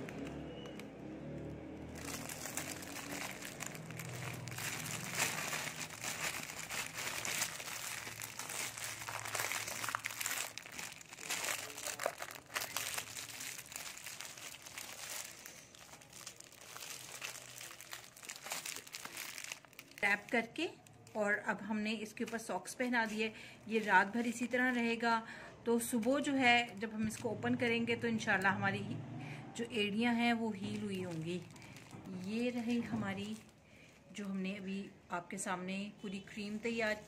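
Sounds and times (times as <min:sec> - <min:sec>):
plastic crinkling and rustling: 0:00.0 - 0:25.2, 0:25.8 - 0:27.6, 0:30.2 - 0:34.8, 0:36.0 - 0:37.0.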